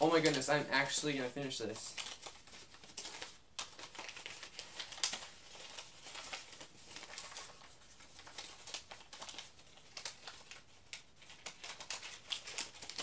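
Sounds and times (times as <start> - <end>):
paper crinkling and rustling: 0.0 - 0.6, 1.7 - 13.0.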